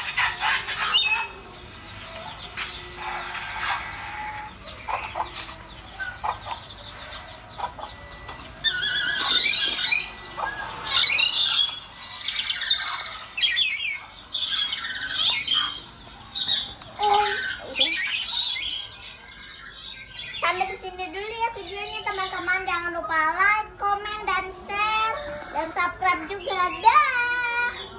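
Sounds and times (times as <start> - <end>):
parrot squawking: 0.0 - 27.9.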